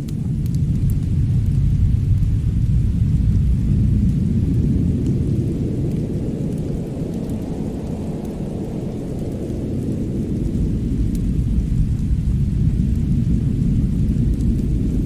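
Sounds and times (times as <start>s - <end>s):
deep continuous rumble: 0.0s - 15.0s
faint fire crackles: 0.0s - 15.0s.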